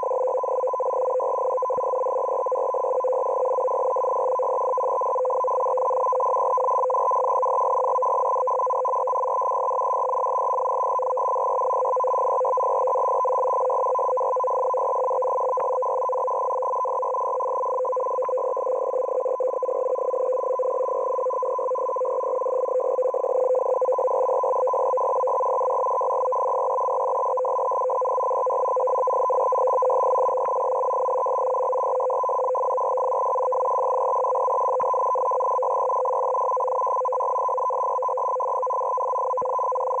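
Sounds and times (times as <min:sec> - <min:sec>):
rapidly keyed two-tone data signal: 0:00.0 - 0:40.0.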